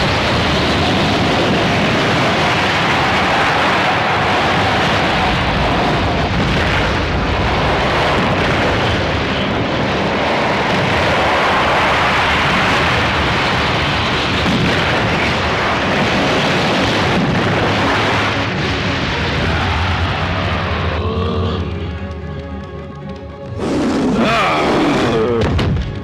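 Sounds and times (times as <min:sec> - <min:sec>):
dense rush of noise: 0:00.0 - 0:26.0.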